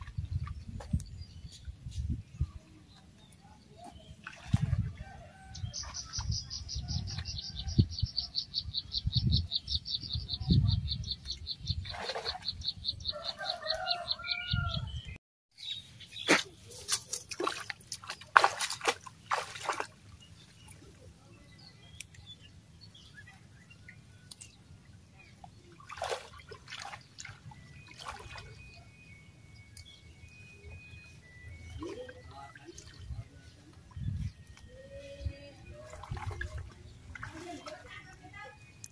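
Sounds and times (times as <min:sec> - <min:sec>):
wading and splashing in water: 0:00.0 - 0:08.3, 0:11.2 - 0:14.3, 0:16.1 - 0:38.9.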